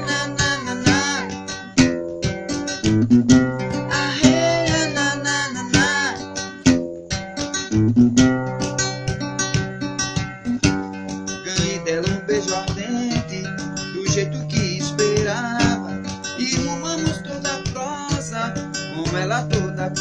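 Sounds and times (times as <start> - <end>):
acoustic guitar strumming: 0.0 - 20.0
picked guitar melody: 0.0 - 20.0.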